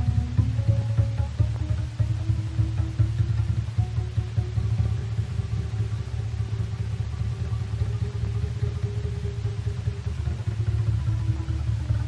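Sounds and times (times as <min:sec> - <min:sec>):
drumsticks beating double bass strings: 0:00.0 - 0:12.0.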